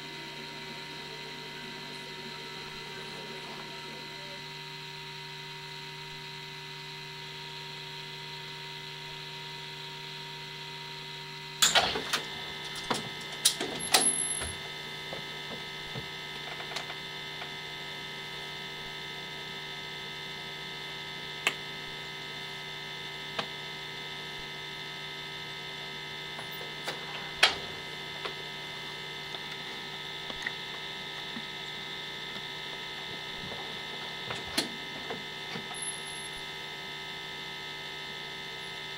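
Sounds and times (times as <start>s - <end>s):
electrical hum with high whine: 0.0s - 38.9s.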